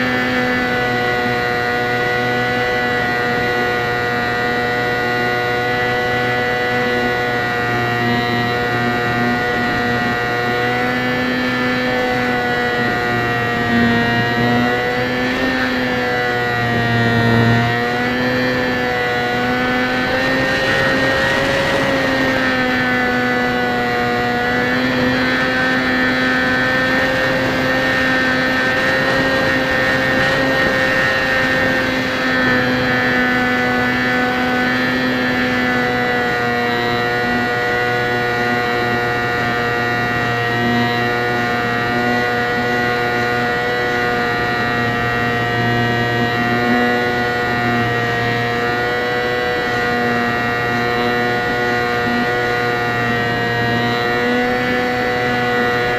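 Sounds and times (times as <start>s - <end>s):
electric motor and propeller whine: 0.0s - 55.9s.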